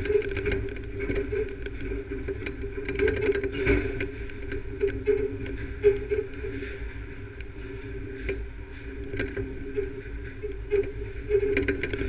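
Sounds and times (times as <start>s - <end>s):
electric discharge ticks and snaps: 0.0s - 12.0s
steady machine hum: 0.0s - 12.0s.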